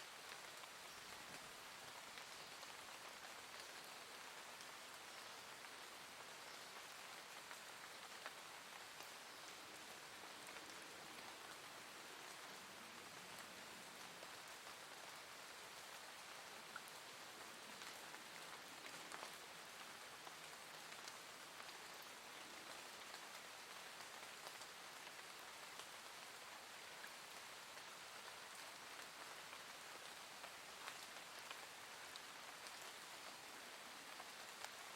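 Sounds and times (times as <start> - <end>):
gentle rain hiss: 0.0 - 34.9
light raindrop ticks: 0.2 - 34.9.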